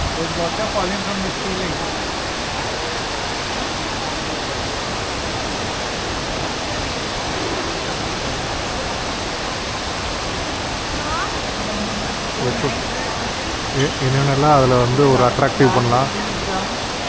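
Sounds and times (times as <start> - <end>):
indoor waterfall splashing: 0.0 - 17.0.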